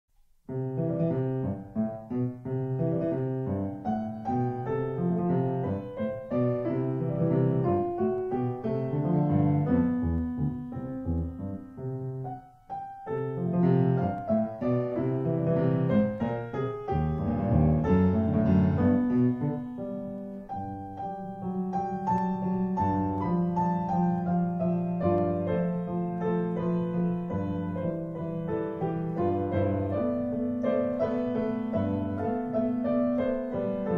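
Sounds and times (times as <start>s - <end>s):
piano music: 0.4s - 33.9s.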